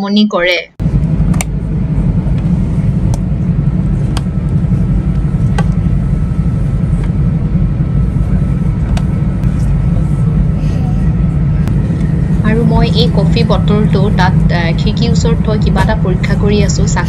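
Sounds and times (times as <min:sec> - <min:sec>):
train rumble inside passenger car: 0:00.8 - 0:17.0.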